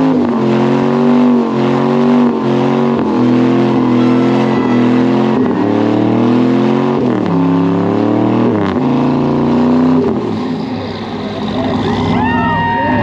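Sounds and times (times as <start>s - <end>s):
truck engine revving high: 0.0s - 13.0s.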